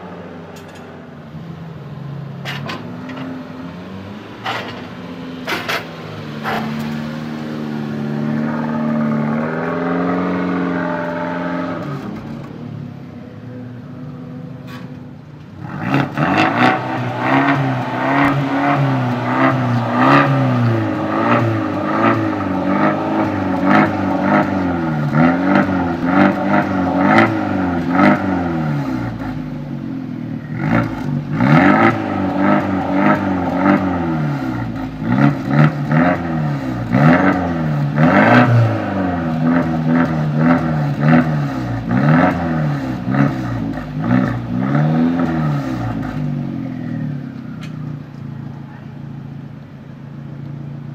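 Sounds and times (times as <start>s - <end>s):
car engine revving: 0.0s - 48.3s.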